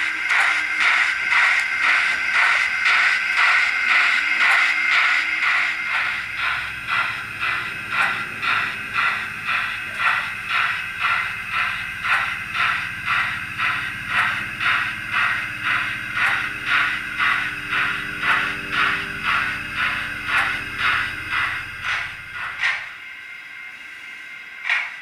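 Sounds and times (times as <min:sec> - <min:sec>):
steam locomotive chuffs from speaker: 0:00.0 - 0:25.0.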